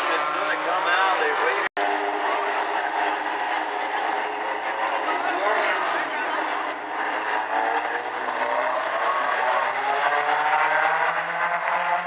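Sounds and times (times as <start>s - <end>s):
race car engines accelerating: 0.0s - 12.0s.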